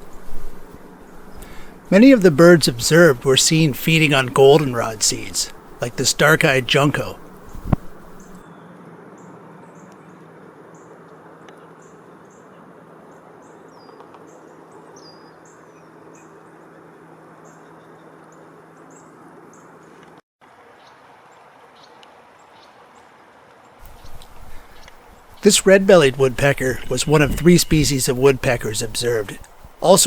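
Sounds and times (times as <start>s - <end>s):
faint low hum: 0.0s - 30.0s
songbirds chirping: 0.0s - 30.0s.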